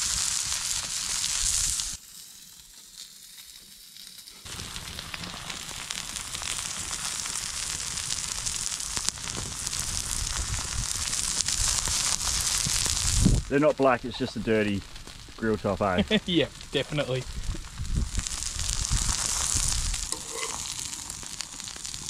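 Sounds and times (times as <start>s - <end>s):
patties sizzling on hotplate: 0.0s - 22.0s.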